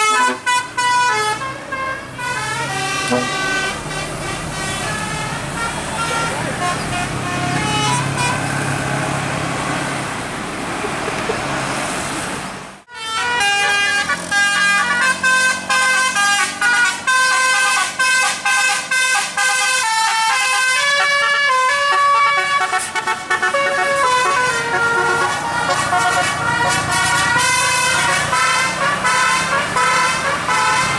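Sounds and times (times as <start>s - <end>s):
musical bus horn playing tune: 0.0s - 8.6s, 12.9s - 30.9s
traffic engines running: 0.0s - 30.9s.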